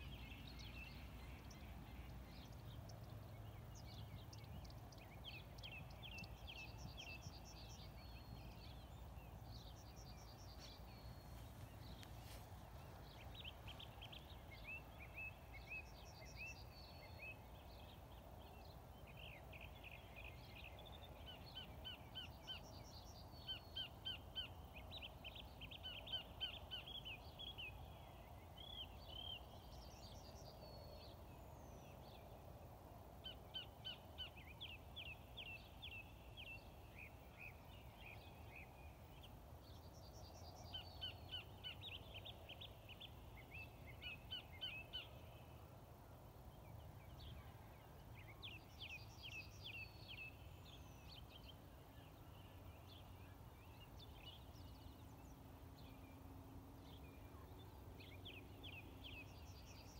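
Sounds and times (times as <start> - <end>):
faint birdsong chirps: 0.0 - 59.9.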